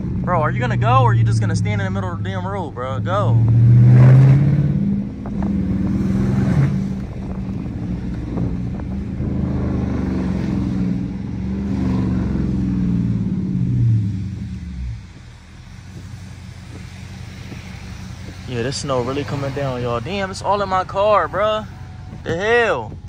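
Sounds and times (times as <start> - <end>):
car engine driving off: 0.0 - 23.0.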